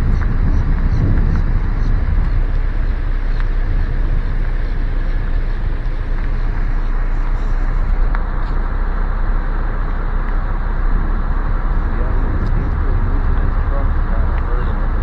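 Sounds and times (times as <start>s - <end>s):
car interior rumble: 0.0s - 15.0s.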